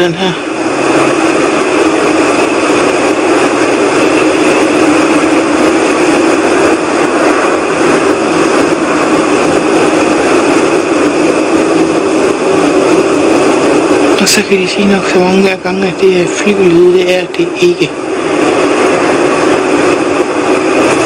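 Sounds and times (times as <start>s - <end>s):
whooshing rumble from the sky: 0.0s - 21.0s.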